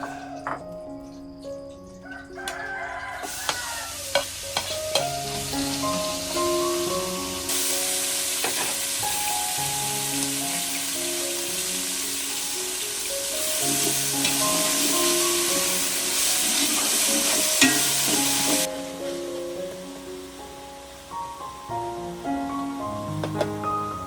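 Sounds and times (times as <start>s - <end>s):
light background music: 0.0s - 24.0s
food sizzling in a hot pan: 2.0s - 24.0s.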